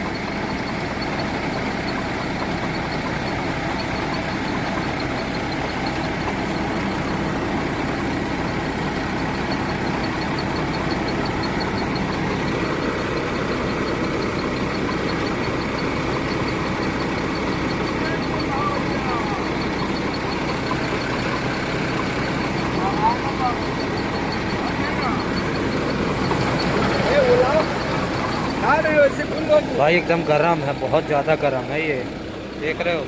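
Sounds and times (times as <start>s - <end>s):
fast regular ticking: 0.0s - 33.0s
milling machinery running: 0.0s - 33.0s.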